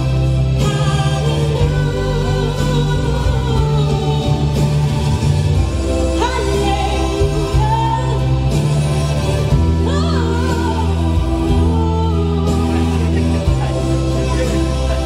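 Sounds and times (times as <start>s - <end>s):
girl singing ballad: 0.0s - 15.0s.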